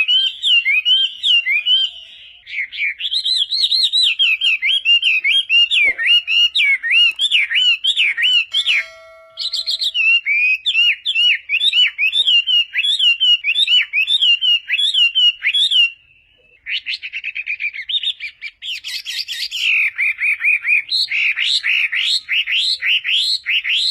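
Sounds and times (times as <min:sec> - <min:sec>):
bird singing whistled notes: 0:00.0 - 0:23.9.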